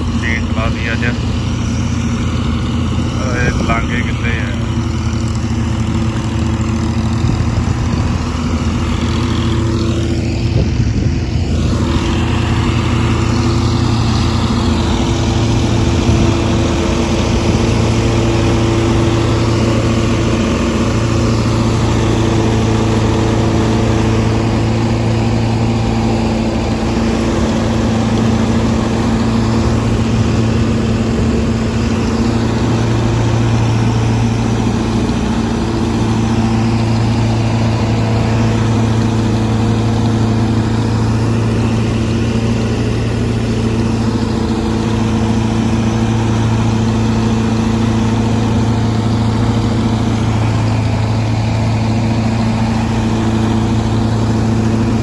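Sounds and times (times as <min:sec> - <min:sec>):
reaper machine whirring: 0:00.0 - 0:55.0
tractor diesel engine humming: 0:00.0 - 0:55.0.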